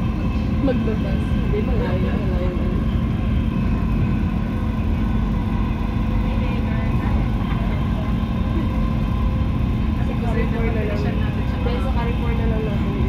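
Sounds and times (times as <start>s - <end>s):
constant hum: 0.0s - 13.0s
train rumble: 0.0s - 13.0s.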